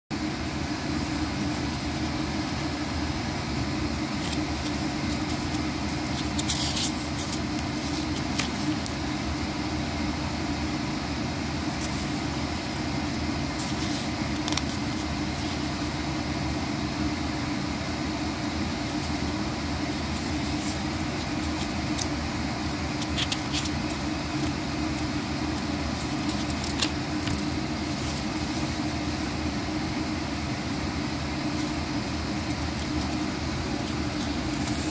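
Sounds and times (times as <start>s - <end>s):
low hum with hiss: 0.1s - 34.9s
paper pages turning: 0.5s - 9.5s, 11.6s - 16.1s, 18.6s - 29.8s, 31.2s - 34.9s.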